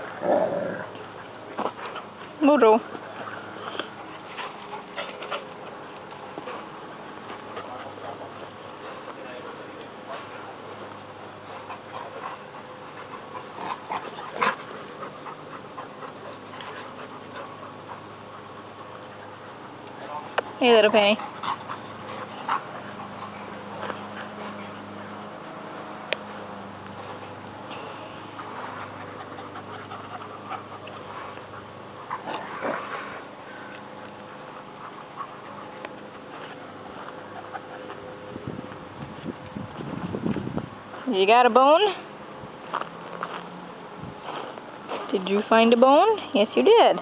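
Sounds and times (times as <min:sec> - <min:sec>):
dogs making sharp sounds: 0:00.0 - 0:39.0.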